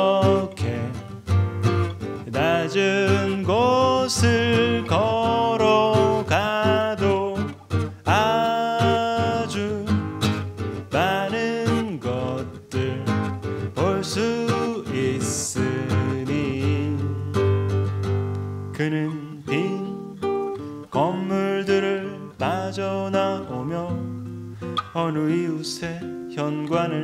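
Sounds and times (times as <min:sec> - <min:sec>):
man singing a slow song: 0:00.0 - 0:01.3, 0:02.2 - 0:17.7, 0:18.7 - 0:27.0
strummed acoustic guitar: 0:00.0 - 0:27.0.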